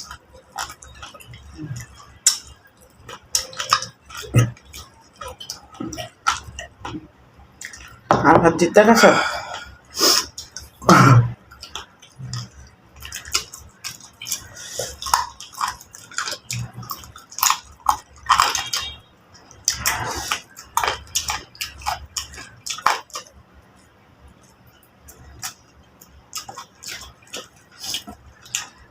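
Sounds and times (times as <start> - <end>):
chewing and lip-smacking: 0.0 - 8.1, 9.6 - 28.9.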